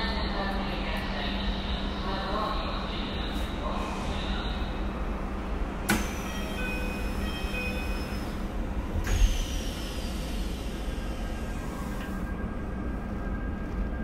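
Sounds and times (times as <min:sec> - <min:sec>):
train interior rumble: 0:00.0 - 0:14.0.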